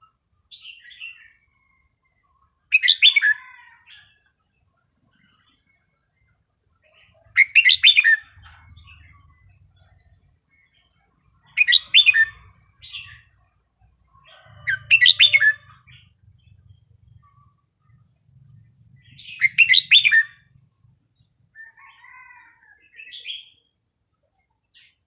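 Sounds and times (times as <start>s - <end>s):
bird singing warbled phrases: 2.4s - 23.7s.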